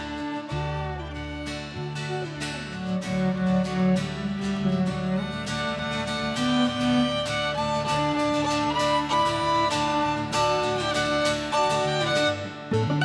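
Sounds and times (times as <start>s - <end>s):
fiddle melody: 0.0s - 13.0s
plucked guitar: 0.0s - 13.0s.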